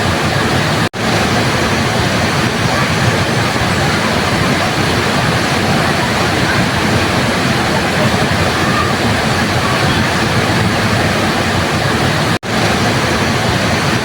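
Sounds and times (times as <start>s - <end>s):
waterfall pouring and splashing: 0.0s - 14.0s.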